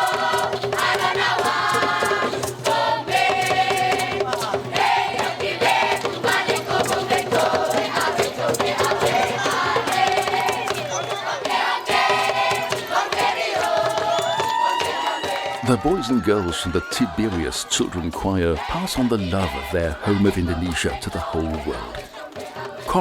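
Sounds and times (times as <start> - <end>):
choir singing: 0.0 - 23.0
sharp percussion hits: 0.0 - 23.0.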